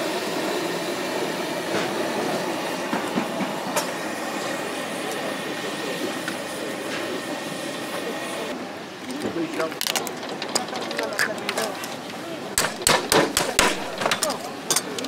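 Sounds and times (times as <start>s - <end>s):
gas burner rushing: 0.0s - 15.0s.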